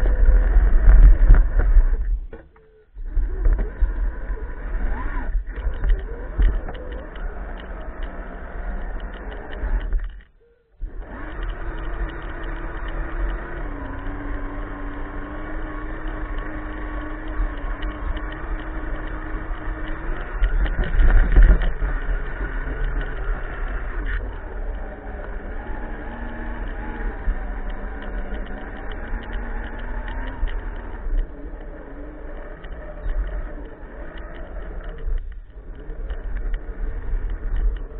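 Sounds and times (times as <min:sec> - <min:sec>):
electric motor and gearbox whining: 0:00.0 - 0:37.9.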